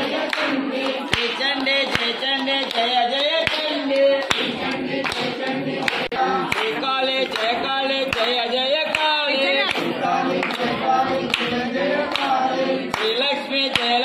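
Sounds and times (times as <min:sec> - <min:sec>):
group singing devotional song: 0:00.0 - 0:14.0
hand claps keeping time: 0:00.0 - 0:14.0.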